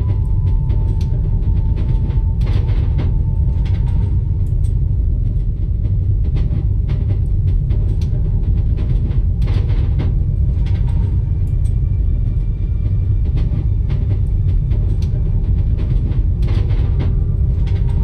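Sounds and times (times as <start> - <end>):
train carriage rumble: 0.0 - 18.0.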